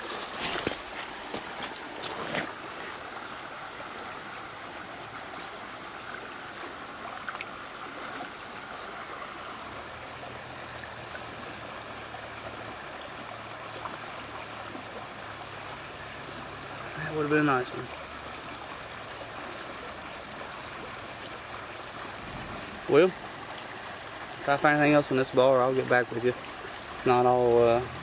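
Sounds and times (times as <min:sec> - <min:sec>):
water running over rocks: 0:00.0 - 0:28.0.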